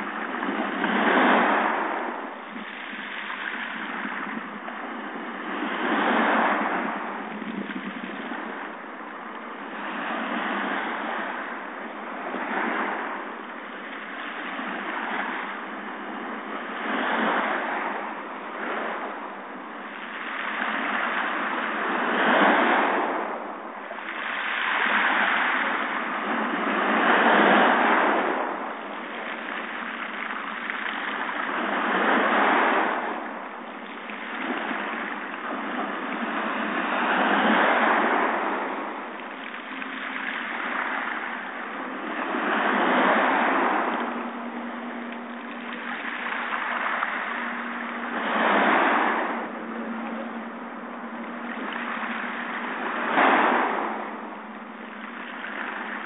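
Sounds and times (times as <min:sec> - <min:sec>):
waves washing over pebble beach: 0:00.0 - 0:56.0.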